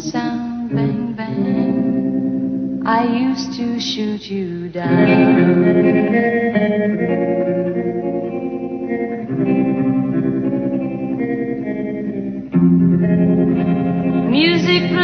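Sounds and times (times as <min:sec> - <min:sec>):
guitar playing sustained chords: 0:00.0 - 0:04.0, 0:04.8 - 0:15.0.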